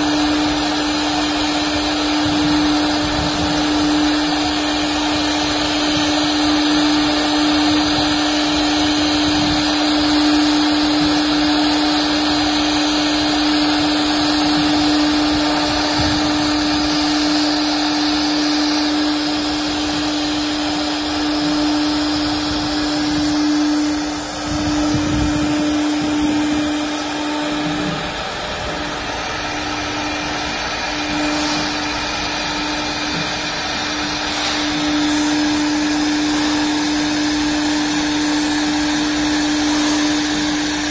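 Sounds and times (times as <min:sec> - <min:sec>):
router spindle high hum: 0:00.0 - 0:40.9
wood cutting hiss: 0:00.0 - 0:40.9.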